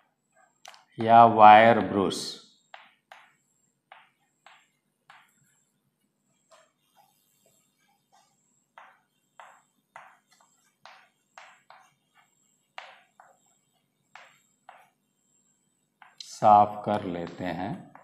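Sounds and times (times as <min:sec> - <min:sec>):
chalk tapping and scratching: 0:00.0 - 0:18.0.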